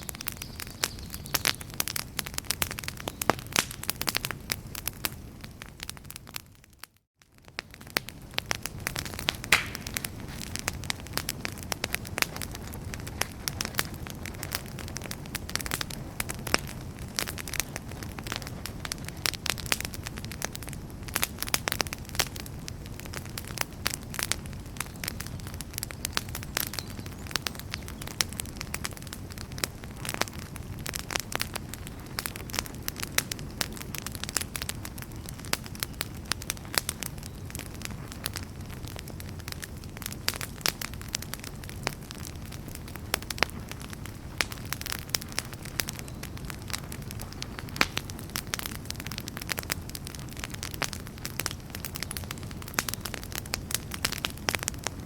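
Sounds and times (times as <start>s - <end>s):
campfire crackling and popping: 0.0s - 55.0s
low rumble of flame: 0.0s - 55.0s.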